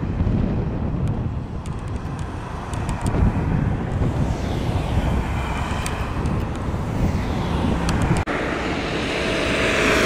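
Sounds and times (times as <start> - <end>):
jet engines rumbling: 0.0 - 10.0
wind buffeting microphone: 0.0 - 10.0.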